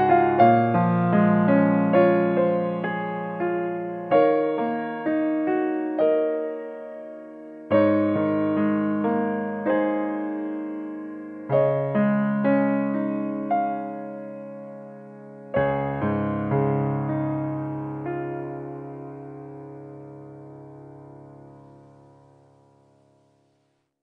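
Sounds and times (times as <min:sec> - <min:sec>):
slow piano music: 0:00.0 - 0:23.8.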